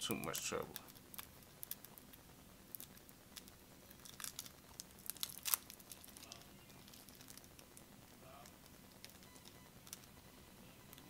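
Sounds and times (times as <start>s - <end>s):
packaging crinkling: 0.7s - 10.2s.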